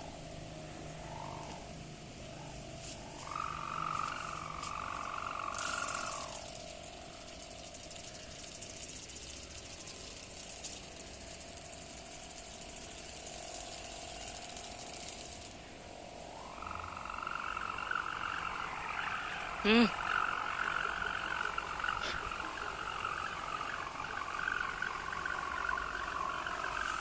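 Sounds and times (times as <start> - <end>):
kite hummer buzzing: 0.0 - 27.0.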